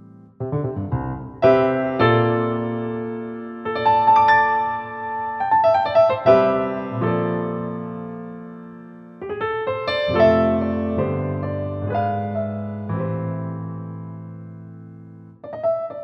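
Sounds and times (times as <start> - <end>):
slow soft piano music: 0.0 - 16.0.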